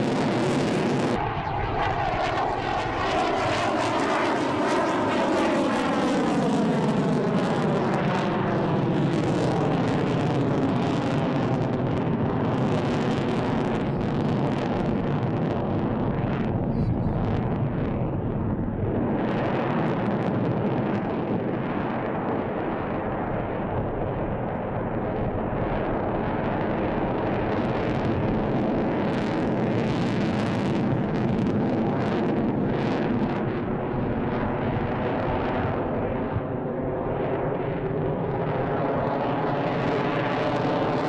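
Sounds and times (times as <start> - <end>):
jet engines roaring overhead: 0.0 - 41.0.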